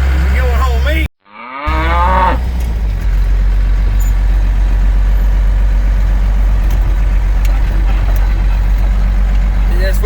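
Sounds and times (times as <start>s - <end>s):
diesel engine droning: 0.0s - 1.1s, 1.7s - 10.0s.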